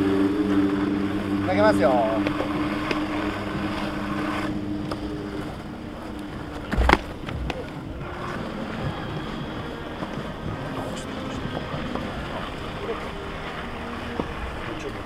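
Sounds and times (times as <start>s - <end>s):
low hum: 0.0s - 15.0s
wind noise on microphone: 0.0s - 15.0s.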